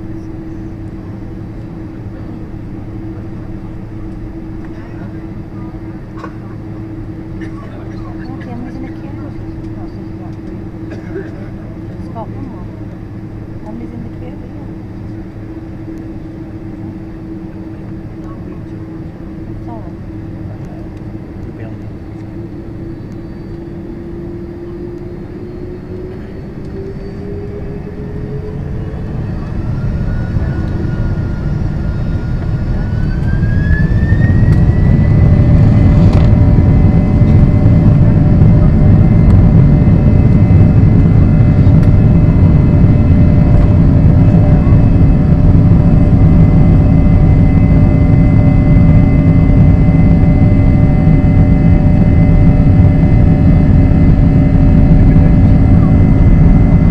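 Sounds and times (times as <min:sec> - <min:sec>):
jet engines roaring with whine: 0:00.0 - 0:56.9.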